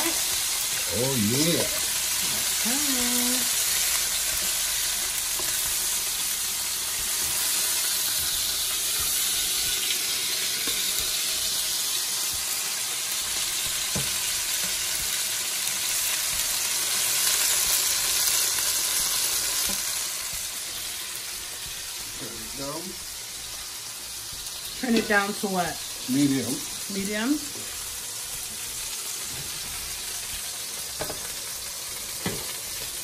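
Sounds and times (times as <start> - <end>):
chicken sizzling in a pan: 0.0 - 33.0.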